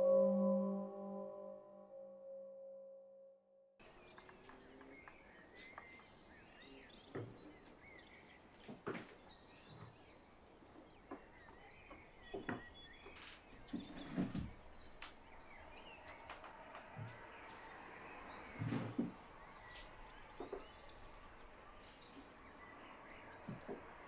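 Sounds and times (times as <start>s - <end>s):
small birds chirping: 3.8s - 24.0s.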